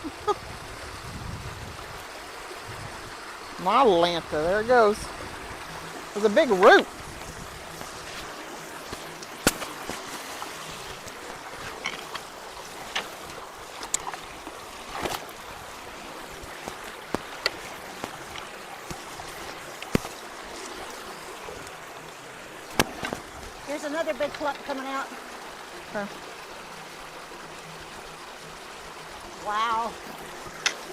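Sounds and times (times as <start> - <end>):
water rushing through a culvert: 0.0 - 30.9.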